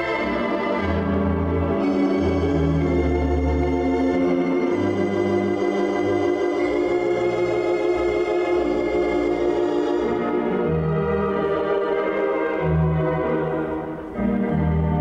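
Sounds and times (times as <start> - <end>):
organ music with bass line: 0.0 - 15.0.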